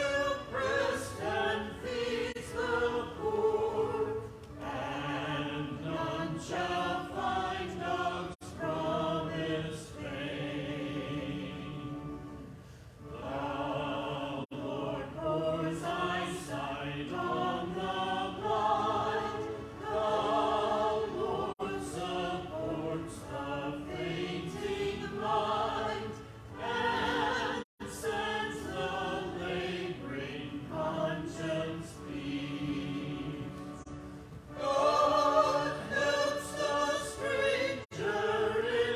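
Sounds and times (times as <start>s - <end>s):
church choir singing in harmony: 0.0s - 38.9s.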